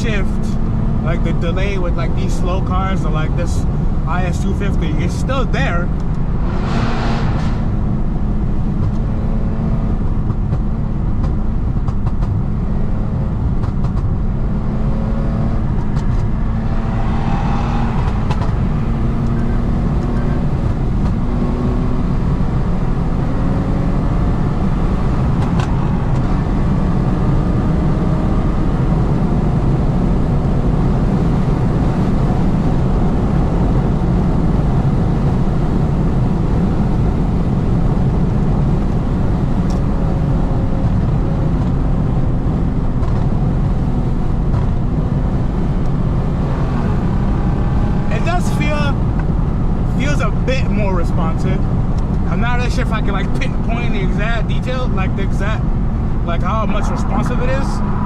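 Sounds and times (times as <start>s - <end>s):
car engine droning: 0.0s - 58.0s
tyre and road rumble: 0.0s - 58.0s.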